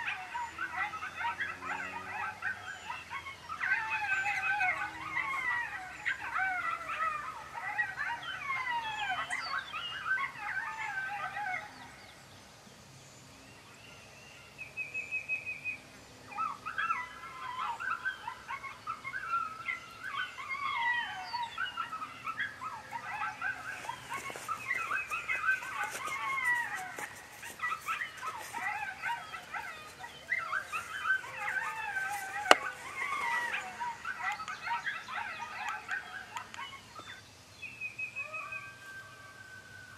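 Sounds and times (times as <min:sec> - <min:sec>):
coyote pups howling and yipping: 0:00.0 - 0:12.2, 0:15.2 - 0:39.9.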